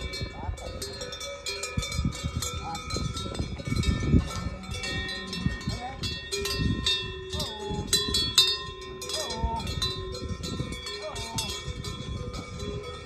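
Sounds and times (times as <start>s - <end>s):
cowbells clanking: 0.0s - 13.0s.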